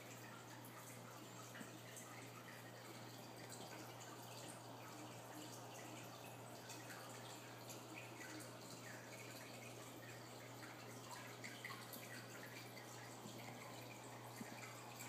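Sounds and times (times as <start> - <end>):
water dripping and bubbling: 0.0 - 15.0.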